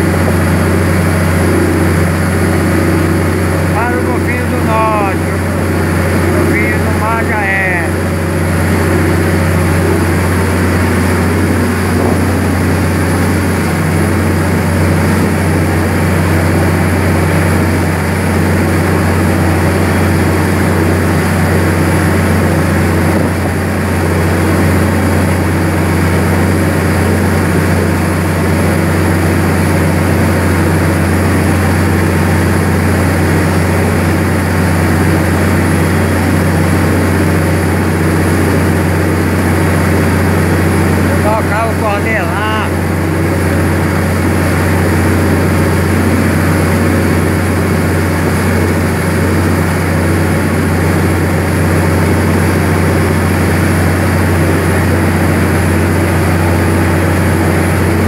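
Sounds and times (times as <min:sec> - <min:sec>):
boat diesel engine droning: 0:00.0 - 0:58.0
hull rushing through water: 0:00.0 - 0:58.0.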